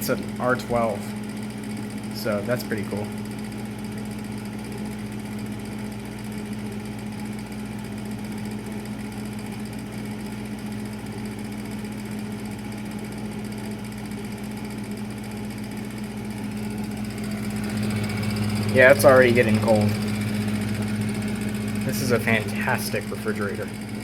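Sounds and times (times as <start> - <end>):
refrigerator compressor hum: 0.0 - 24.0.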